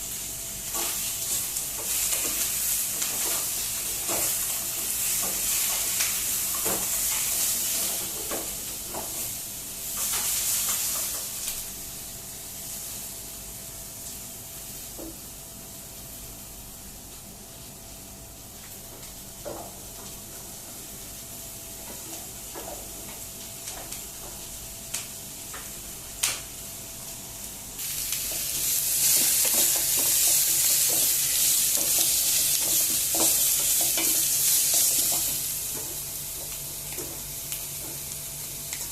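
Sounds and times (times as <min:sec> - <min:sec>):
food sizzling in a hot pan: 0:00.0 - 0:16.6, 0:17.4 - 0:38.9.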